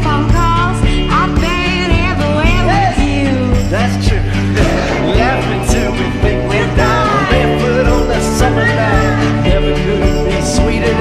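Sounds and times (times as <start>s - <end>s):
song with steady beat: 0.0s - 11.0s.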